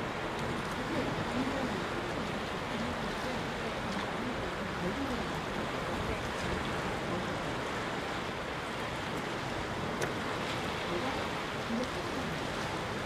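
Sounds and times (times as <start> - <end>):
sea surf on rocky shore: 0.0 - 13.0.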